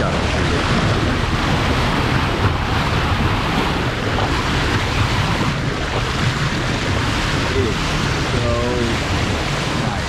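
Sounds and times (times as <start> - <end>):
hull rushing through water: 0.0 - 10.0
wind buffeting microphone: 0.0 - 10.0.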